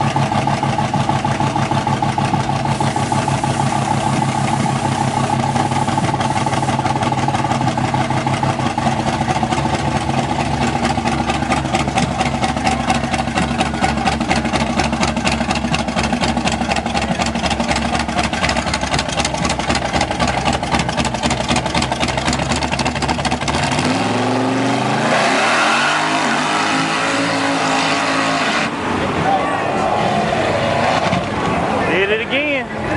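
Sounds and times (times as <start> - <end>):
car engine idling and revving: 0.0 - 32.9.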